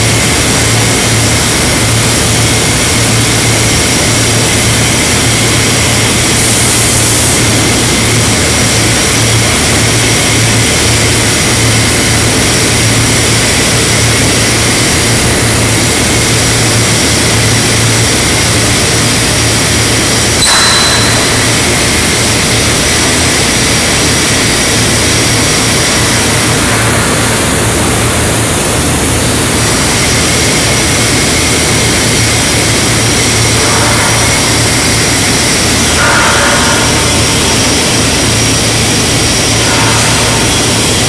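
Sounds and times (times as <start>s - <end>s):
industrial machinery drone: 0.0s - 41.0s.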